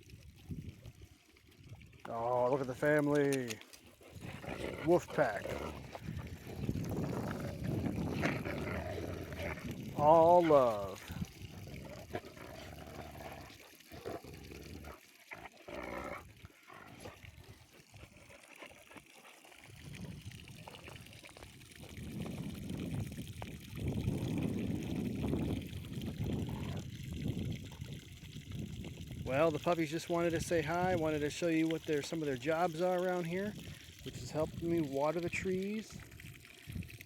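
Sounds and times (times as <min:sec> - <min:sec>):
water pouring and trickling: 0:00.0 - 0:37.0.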